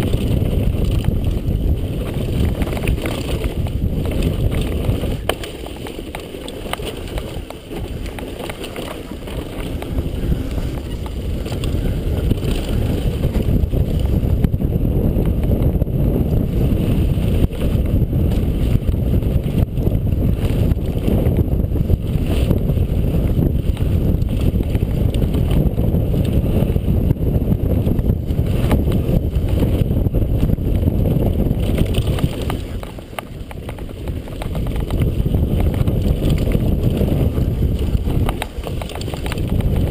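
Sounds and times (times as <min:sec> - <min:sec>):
bike rattling on dirt trail: 0:00.0 - 0:39.9
wind buffeting microphone: 0:00.0 - 0:39.9.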